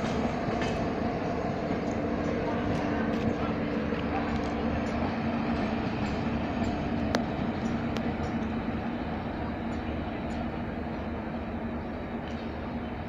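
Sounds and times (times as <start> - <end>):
train coaches rumbling on track: 0.0 - 13.0.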